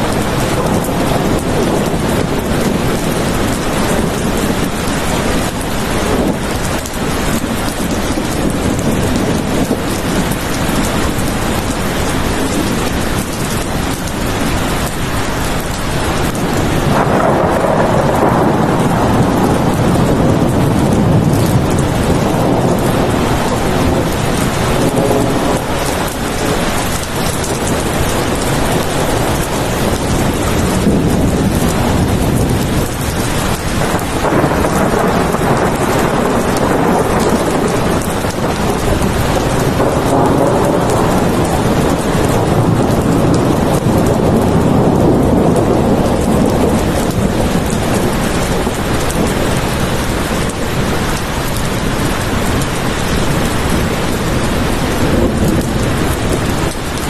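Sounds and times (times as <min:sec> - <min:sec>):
heavy rain falling: 0:00.0 - 0:57.0
thunder rumbling: 0:00.0 - 0:57.0.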